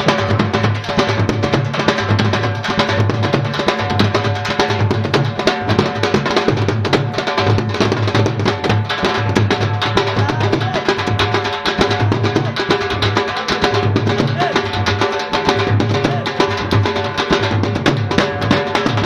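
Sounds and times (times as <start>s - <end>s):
dhol drumming: 0.0s - 19.0s.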